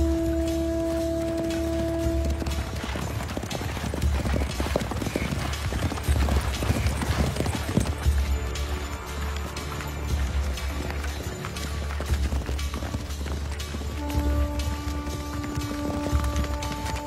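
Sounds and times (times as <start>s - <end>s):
film music: 0.0s - 17.0s
horse hooves galloping on dirt: 0.0s - 17.0s.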